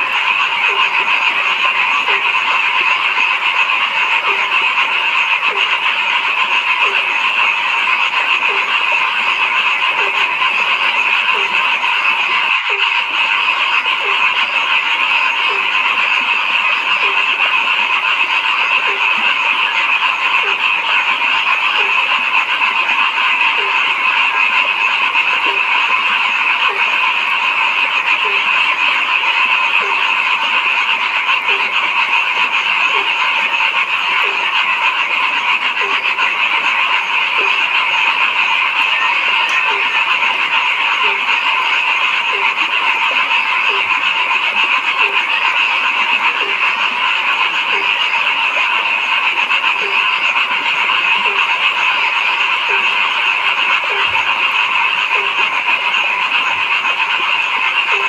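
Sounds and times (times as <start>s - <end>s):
chorus of frogs calling: 0.0s - 58.0s
low frog croak: 0.0s - 58.0s.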